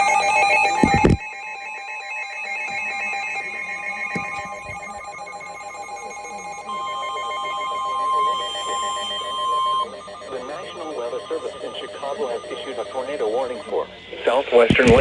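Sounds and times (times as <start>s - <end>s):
repeating electronic tones: 0.0s - 13.9s.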